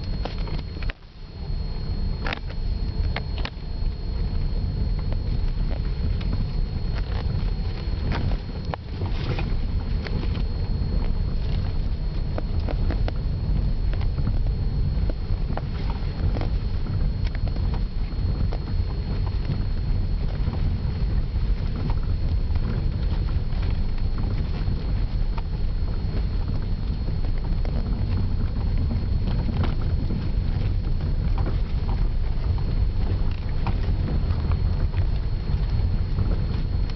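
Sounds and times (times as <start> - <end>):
low road rumble: 0.0 - 36.9.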